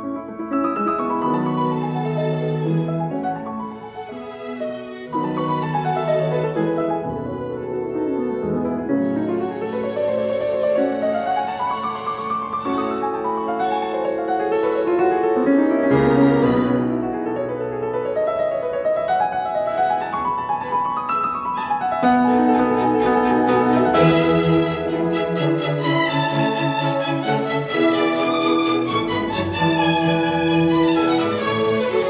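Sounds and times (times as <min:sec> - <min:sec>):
piano: 0:00.0 - 0:32.0
bowed strings: 0:01.0 - 0:17.3, 0:20.4 - 0:32.0.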